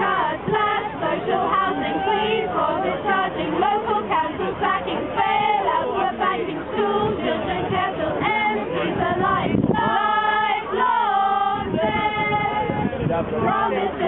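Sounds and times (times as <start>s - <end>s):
group singing a carol unaccompanied: 0.0s - 14.0s.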